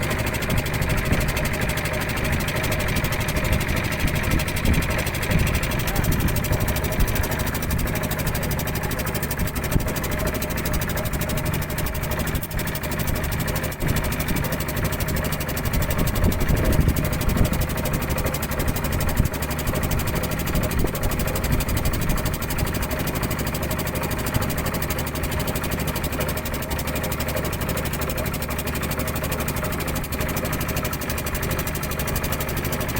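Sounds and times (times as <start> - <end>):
boat engine chugging: 0.0 - 32.9.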